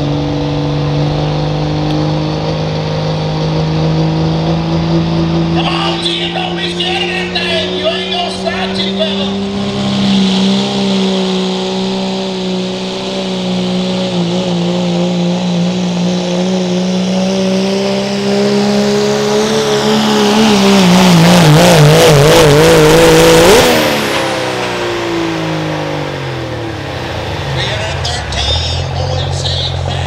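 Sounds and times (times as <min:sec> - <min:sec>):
pickup engine high-revving drone: 0:00.0 - 0:30.0.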